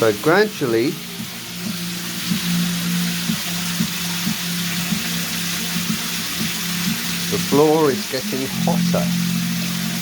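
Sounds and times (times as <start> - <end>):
shower water hissing into drain: 0.0 - 10.0.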